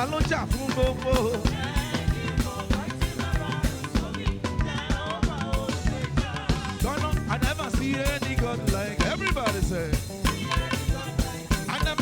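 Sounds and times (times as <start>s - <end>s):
drum kit beat: 0.0s - 12.0s
live band playing gospel music: 0.0s - 12.0s.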